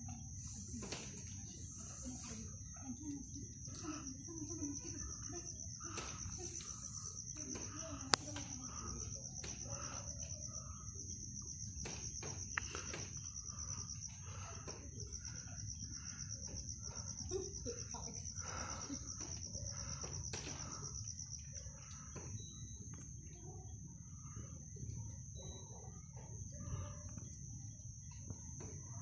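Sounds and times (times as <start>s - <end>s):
night insects trilling: 0.0s - 29.0s.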